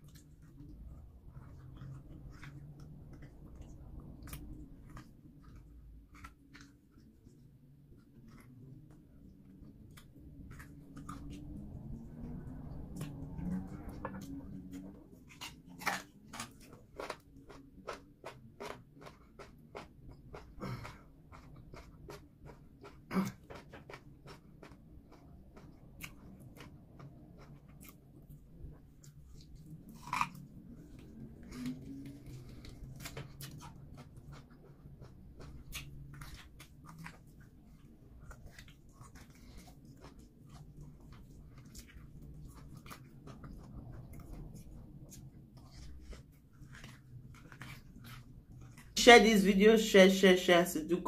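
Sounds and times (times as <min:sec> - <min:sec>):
person chewing with wet smacks: 0:00.0 - 0:49.0
low steady hum: 0:00.0 - 0:51.0.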